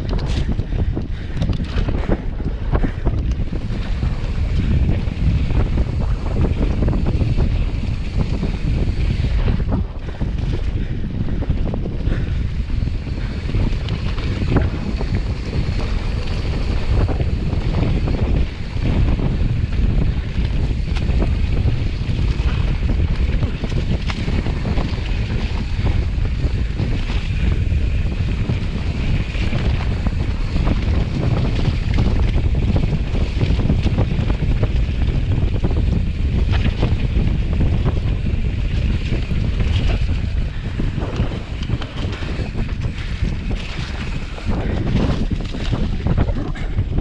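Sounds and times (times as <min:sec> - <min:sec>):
wind blowing on microphone: 0:00.0 - 0:47.0.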